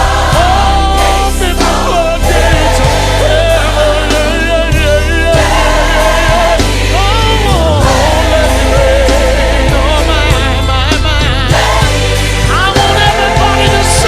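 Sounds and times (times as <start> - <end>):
bass line and beat: 0.0 - 14.0
choir singing held notes: 0.0 - 14.0.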